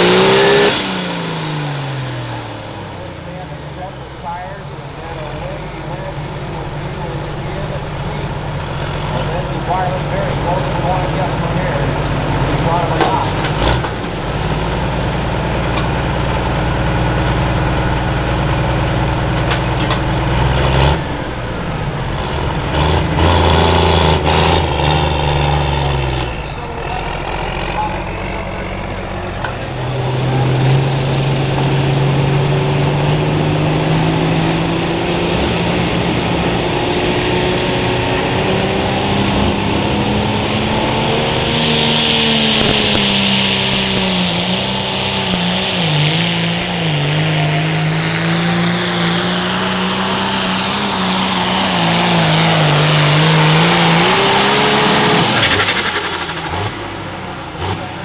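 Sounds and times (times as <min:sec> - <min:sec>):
tractor engine at full throttle: 0:00.0 - 0:58.0.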